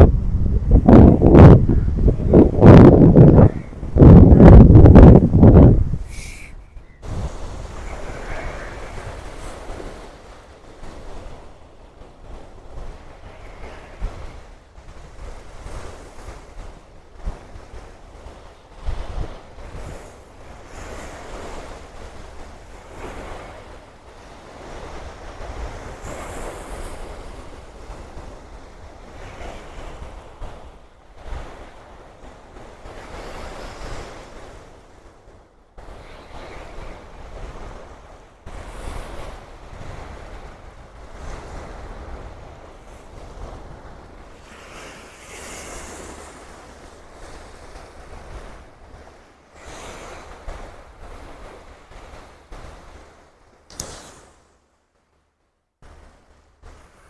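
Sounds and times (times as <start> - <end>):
wind buffeting microphone: 0.0 - 54.4
ocean surf washing in: 0.0 - 54.7.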